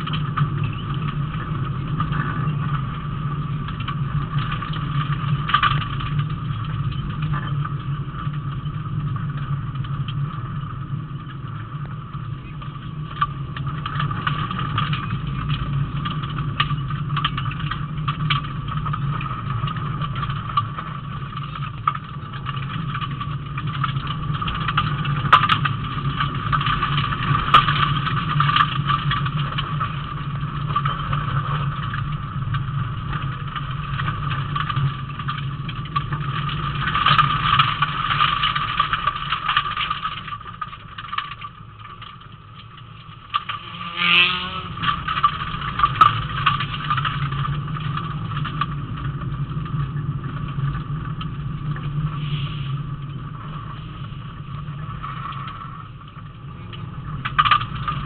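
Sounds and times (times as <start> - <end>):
rally car engine running hard: 0.0 - 40.9, 41.5 - 58.0
road and gravel noise: 0.0 - 58.0.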